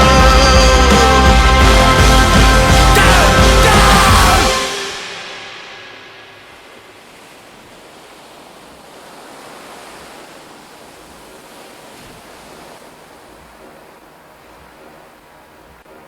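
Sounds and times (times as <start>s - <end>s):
sea waves washing in: 0.0s - 16.0s.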